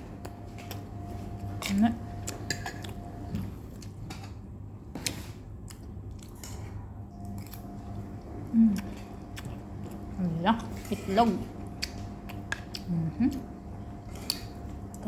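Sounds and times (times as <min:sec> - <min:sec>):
person chewing food: 0:00.0 - 0:10.8, 0:11.5 - 0:15.0.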